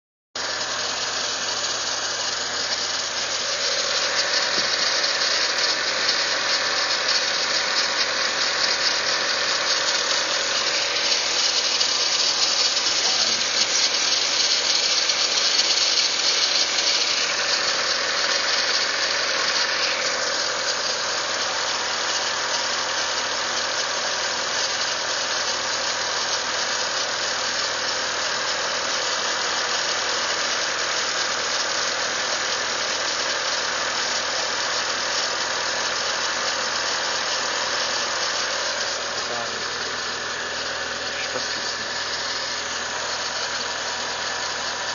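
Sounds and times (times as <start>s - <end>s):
car engine running with hiss: 0.4s - 44.9s.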